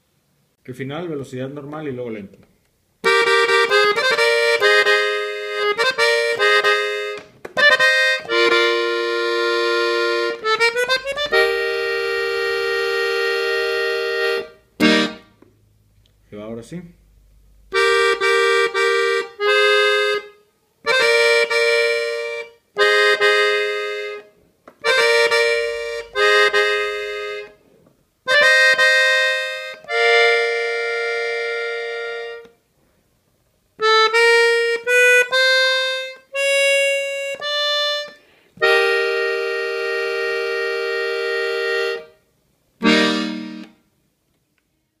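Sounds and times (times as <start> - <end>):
button accordion playing: 3.0 - 15.4, 17.6 - 27.6, 28.3 - 32.6, 33.8 - 43.9.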